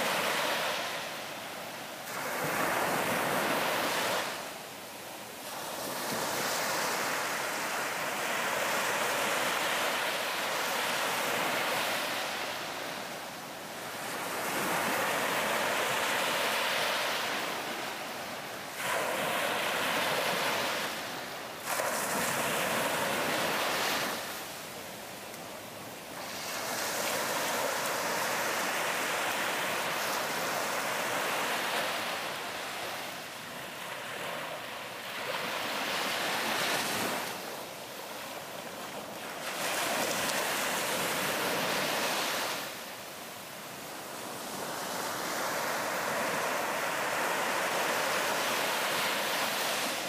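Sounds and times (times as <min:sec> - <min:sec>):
ocean waves breaking on beach: 0:00.0 - 0:50.0.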